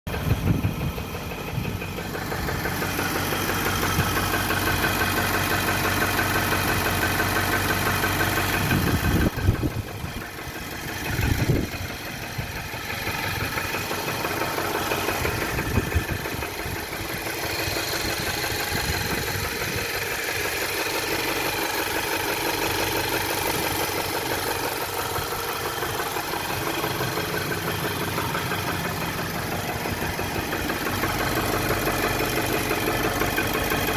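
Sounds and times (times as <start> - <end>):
car engine idling: 0.1 - 33.9
engine knocking: 0.1 - 33.9.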